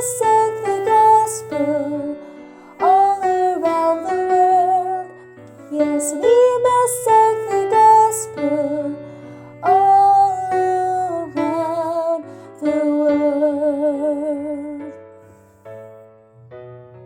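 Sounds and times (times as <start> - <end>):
piano accompaniment: 0.0 - 17.0.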